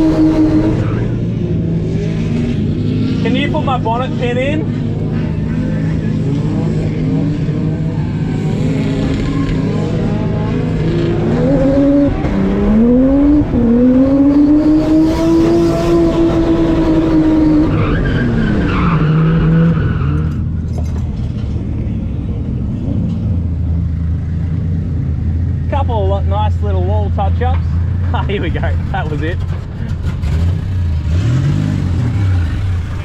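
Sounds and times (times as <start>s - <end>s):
car engine revving: 0.0s - 26.7s, 27.8s - 33.0s.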